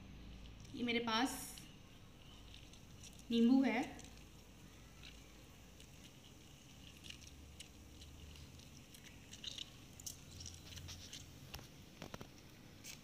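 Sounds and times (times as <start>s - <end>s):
baking soda fizzing and crackling: 0.0s - 13.0s.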